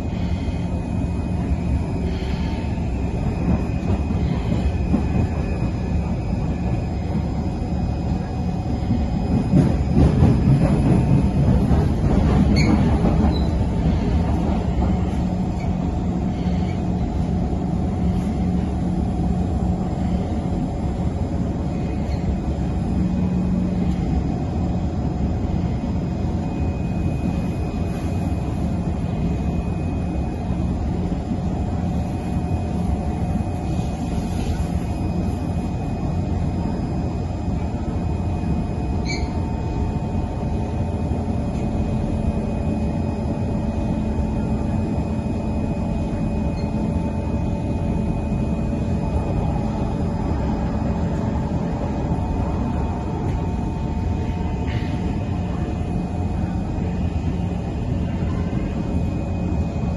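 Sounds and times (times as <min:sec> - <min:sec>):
train hum tones: 0:00.0 - 0:59.9
train wheels rumbling on track: 0:00.0 - 0:59.9.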